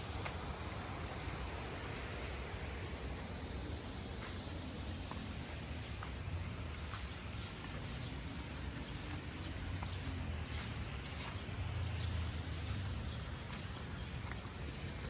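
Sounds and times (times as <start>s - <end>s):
footsteps outdoors: 0.0s - 1.2s, 3.2s - 15.0s
high-pitched hiss: 0.0s - 15.0s.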